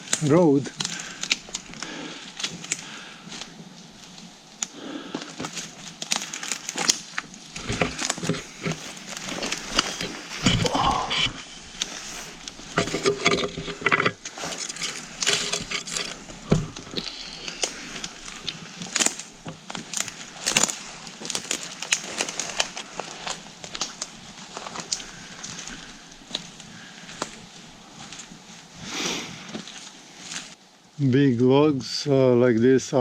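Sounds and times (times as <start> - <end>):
twigs cracking: 0.0 - 30.8
brush rustling: 0.0 - 30.9
footsteps through undergrowth: 0.0 - 31.0.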